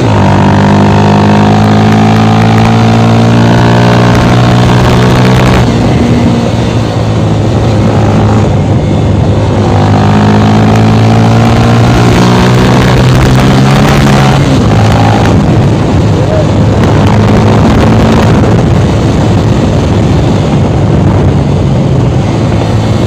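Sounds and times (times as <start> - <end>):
motorcycle engine running loud: 0.0 - 23.0.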